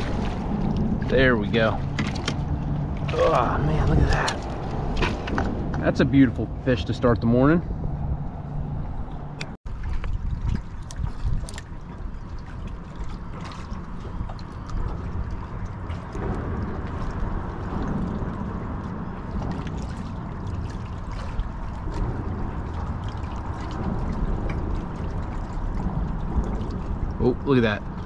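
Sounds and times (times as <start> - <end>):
steady low rumble: 0.0 - 28.0
water lapping against hull: 0.0 - 28.0.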